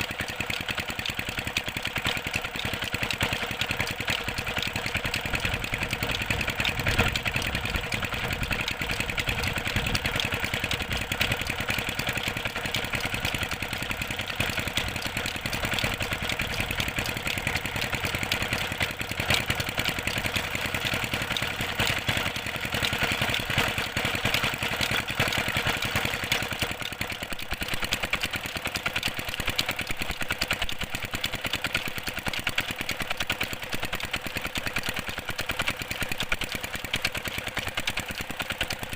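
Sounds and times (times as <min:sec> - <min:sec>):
diesel engine driving water pump: 0:00.0 - 0:38.9.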